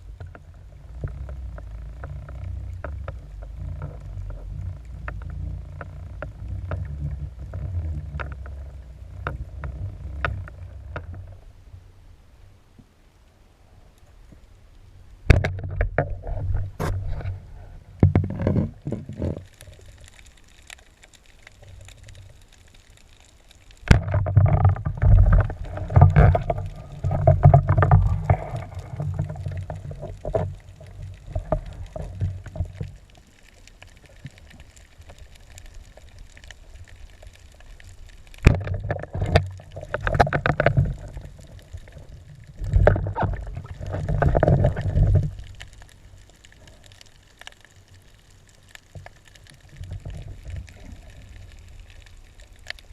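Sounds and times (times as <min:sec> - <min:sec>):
muffled water splashing and bubbling: 0:00.0 - 0:52.9
quiet water hiss: 0:00.0 - 0:52.9.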